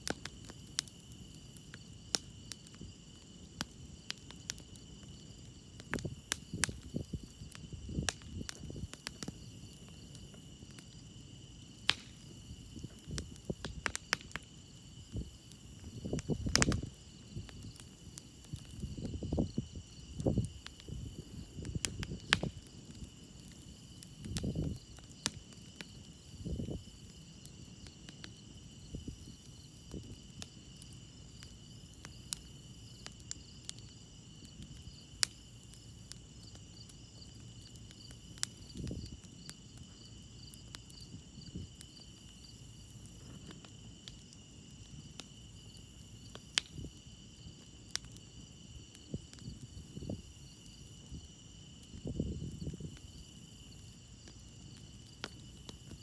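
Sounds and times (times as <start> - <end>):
campfire crackling and popping: 0.0 - 56.0
crickets chirping: 0.2 - 56.0.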